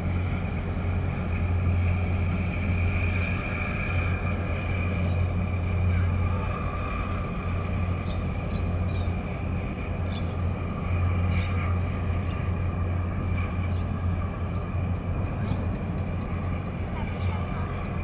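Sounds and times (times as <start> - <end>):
ship engines droning: 0.0 - 18.0
steady high whine: 0.0 - 18.0.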